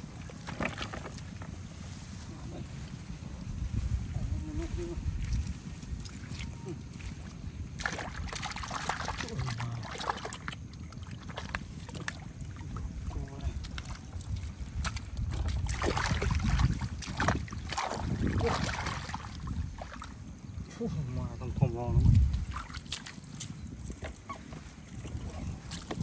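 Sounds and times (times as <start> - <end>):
water splashing and sloshing: 0.0 - 20.9, 21.6 - 26.0
wind rumble on microphone: 0.0 - 26.0.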